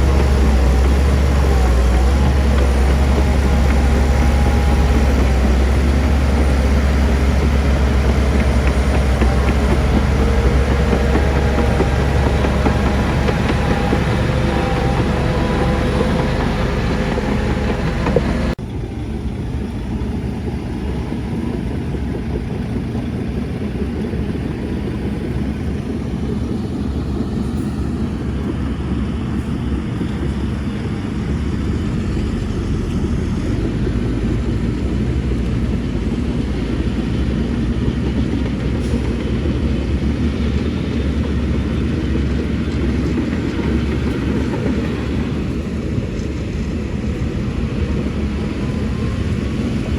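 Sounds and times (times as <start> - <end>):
diesel machinery rumbling: 0.0 - 49.9.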